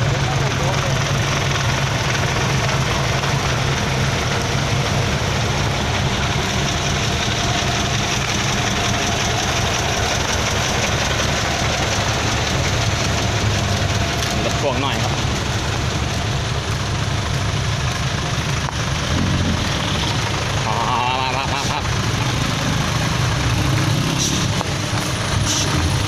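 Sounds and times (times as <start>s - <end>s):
truck engines running: 0.0s - 26.0s.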